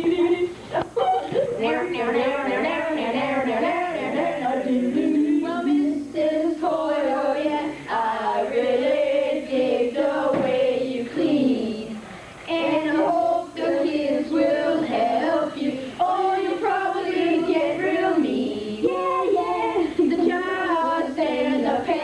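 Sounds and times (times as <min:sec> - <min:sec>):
boys singing together: 0:01.2 - 0:22.0.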